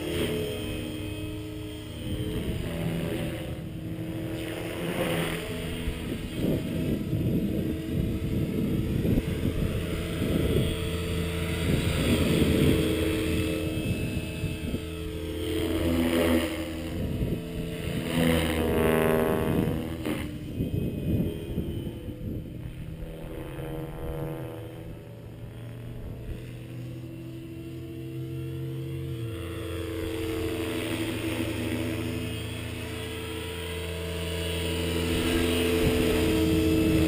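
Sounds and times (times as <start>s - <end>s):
rc helicopter motor whine: 0.0s - 37.0s
rotor blades whooshing: 0.0s - 37.0s.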